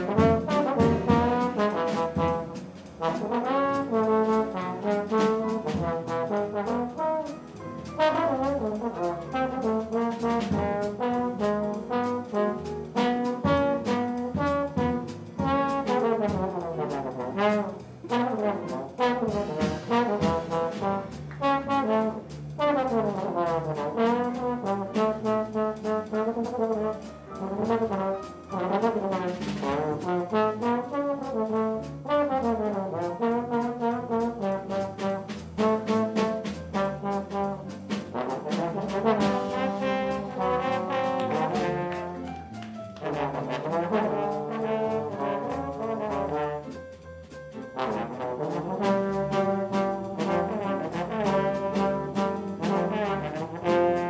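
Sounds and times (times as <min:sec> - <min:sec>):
drums on cymbals: 0:00.0 - 0:42.3, 0:43.1 - 0:54.0
bass: 0:00.0 - 0:54.0
piano: 0:00.0 - 0:54.0
trombone melody: 0:00.0 - 0:54.0.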